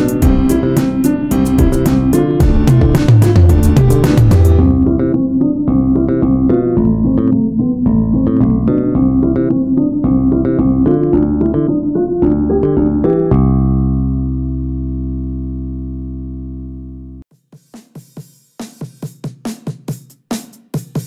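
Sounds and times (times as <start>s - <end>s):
instrumental background music: 0.0s - 21.0s.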